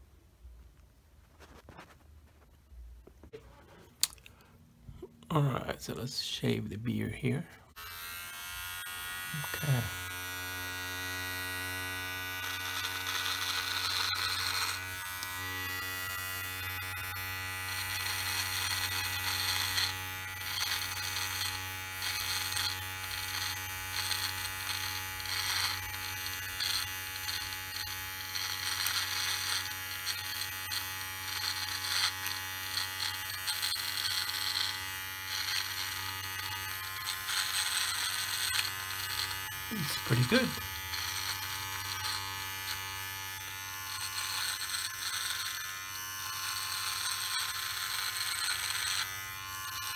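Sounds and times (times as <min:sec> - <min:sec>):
body trimmer buzzing: 0:07.7 - 0:49.9
trimmer blade crackling through hair: 0:07.7 - 0:49.9.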